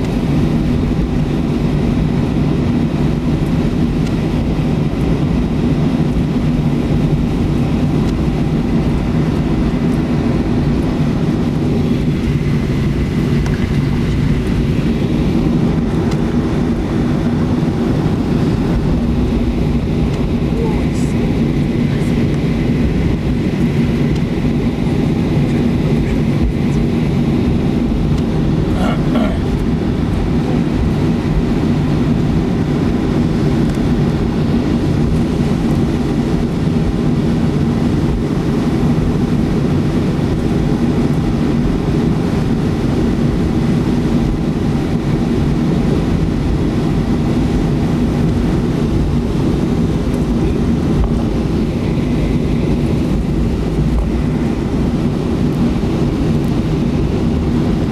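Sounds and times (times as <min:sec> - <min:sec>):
airframe rolling over taxiway: 0:00.0 - 0:57.9
jet engines low rumble: 0:00.0 - 0:57.9.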